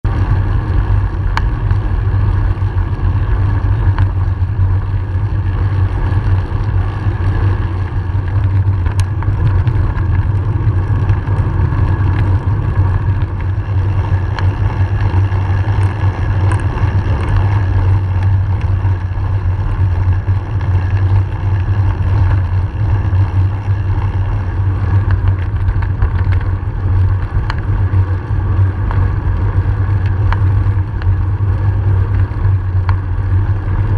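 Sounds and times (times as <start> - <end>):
road vibration: 0.0 - 33.9
wind rumble: 0.0 - 33.9.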